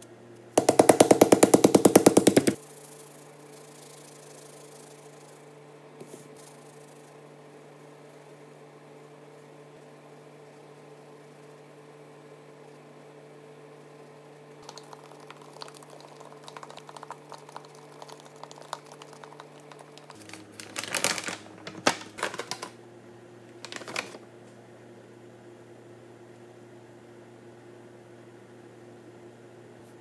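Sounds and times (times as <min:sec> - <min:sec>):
room hum: 0:00.0 - 0:30.0.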